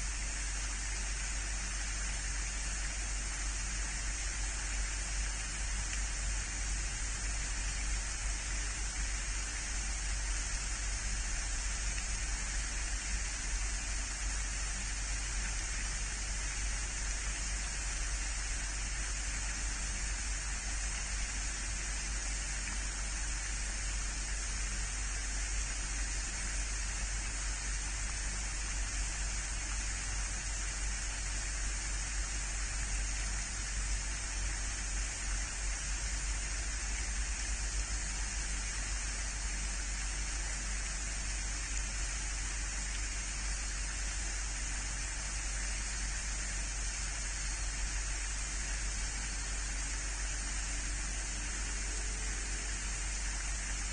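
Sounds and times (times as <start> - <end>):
outdoor hiss: 0.0 - 53.9.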